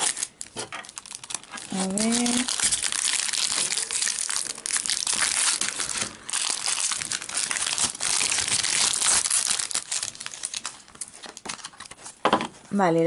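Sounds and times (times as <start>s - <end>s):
foil packet tearing and crinkling: 0.0s - 12.2s.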